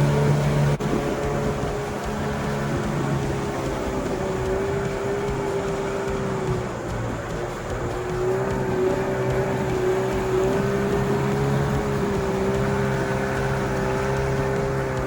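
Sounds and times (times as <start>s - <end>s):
engine running with whine: 0.0s - 15.0s.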